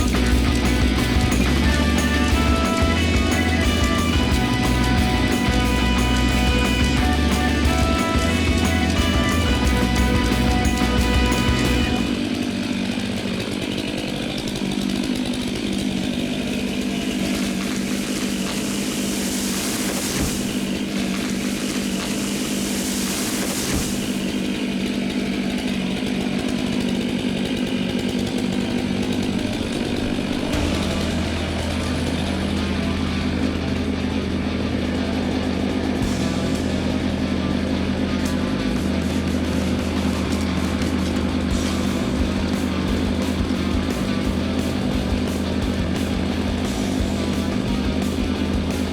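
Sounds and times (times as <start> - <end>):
chainsaw running: 0.0 - 48.9.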